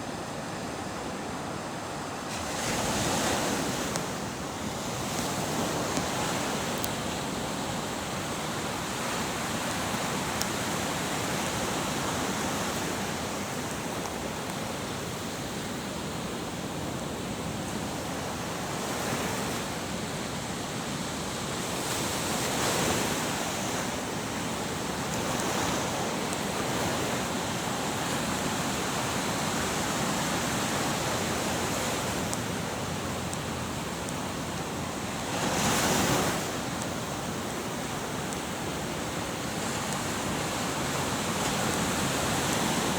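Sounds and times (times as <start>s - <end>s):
big waves breaking: 0.0s - 42.9s
ocean waves washing: 0.0s - 42.9s.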